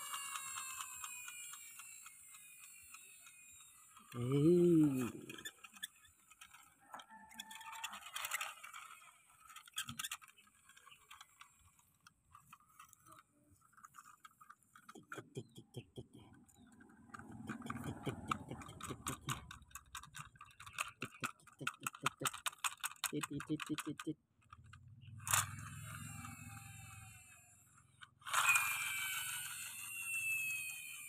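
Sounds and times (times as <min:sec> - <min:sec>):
fast clicking ticks: 0:00.0 - 0:25.6
toy vehicles scraping through mud: 0:00.0 - 0:31.0.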